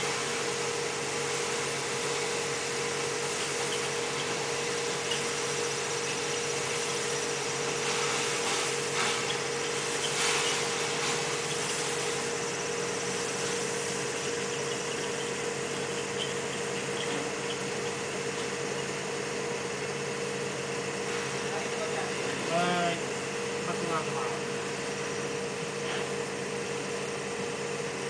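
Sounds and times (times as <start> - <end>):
mid-pitched whine: 0.0 - 28.0
motor droning: 0.0 - 28.0.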